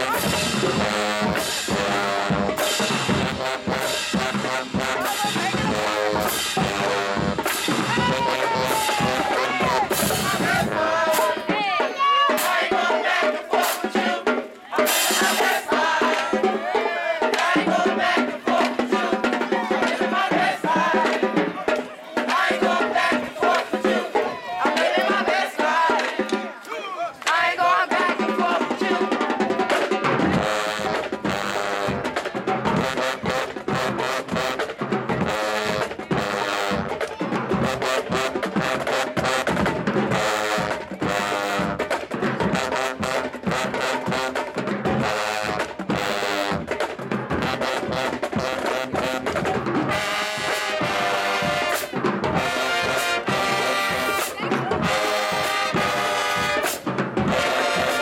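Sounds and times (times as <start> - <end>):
marching drums: 0.0 - 58.0
trumpets and trombones: 0.0 - 58.0.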